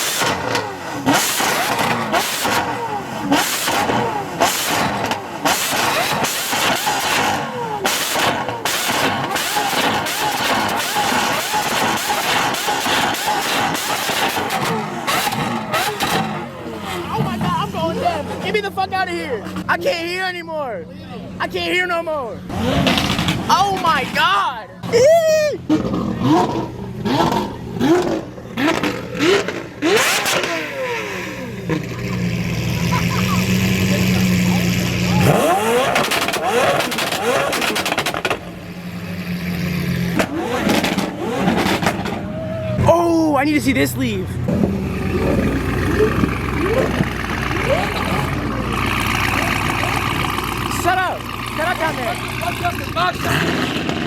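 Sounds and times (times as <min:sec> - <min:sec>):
sports car engine revving: 0:00.0 - 0:19.8, 0:22.4 - 0:25.0, 0:25.6 - 0:54.0.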